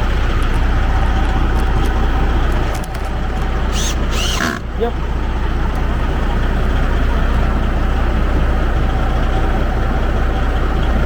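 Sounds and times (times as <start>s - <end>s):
truck diesel engine idling: 0.0s - 11.0s.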